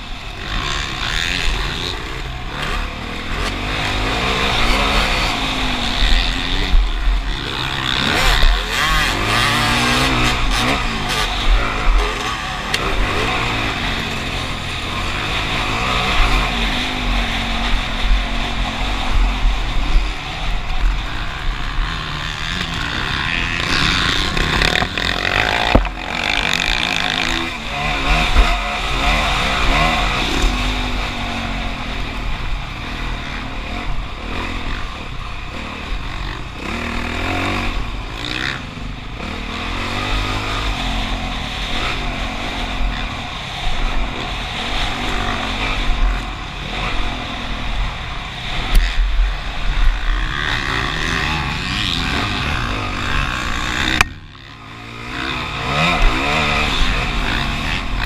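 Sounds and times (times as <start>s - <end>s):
constant low rumble: 0.0s - 58.0s
motocross bike engine revving: 0.0s - 58.0s.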